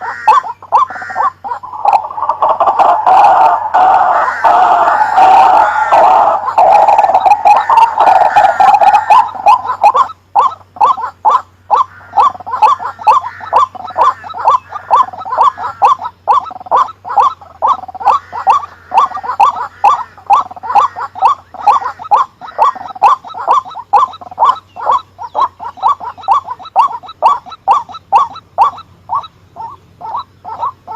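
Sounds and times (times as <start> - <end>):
waterhen croaking calls: 0.0 - 30.9.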